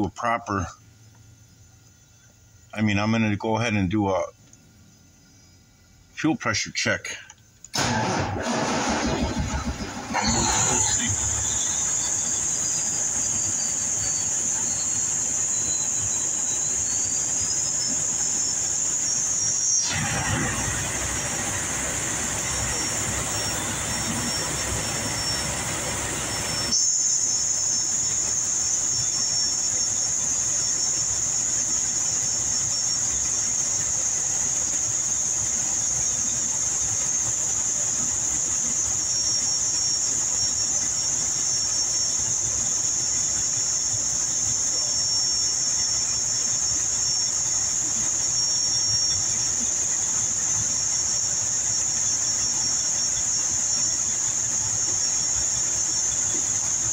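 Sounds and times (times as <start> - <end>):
diesel engine idling: 0.0 - 56.9
steady high-pitched whine: 0.0 - 56.9.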